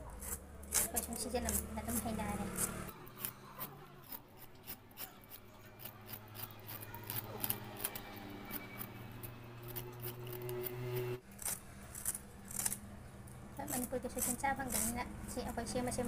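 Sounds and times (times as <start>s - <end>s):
knife scraping bamboo shoot husk: 0.0s - 12.8s, 13.6s - 15.0s.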